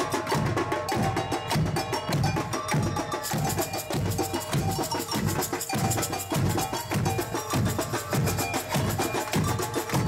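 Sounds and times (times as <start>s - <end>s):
snare drums: 0.0s - 10.0s.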